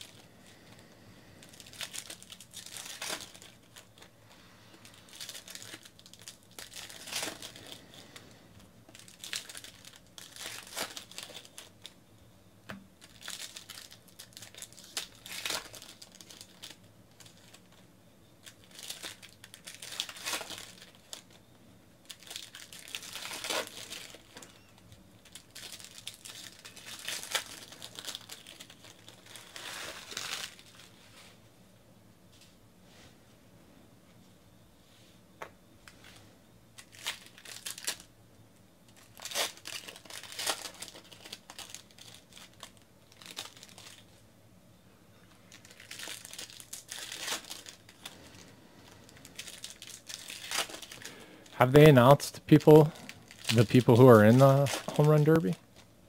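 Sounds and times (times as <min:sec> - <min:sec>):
foil wrappers crinkling and tearing: 0:00.0 - 0:12.0, 0:13.0 - 0:21.4, 0:22.0 - 0:31.1, 0:36.8 - 0:38.1, 0:38.9 - 0:44.2, 0:45.2 - 0:55.9.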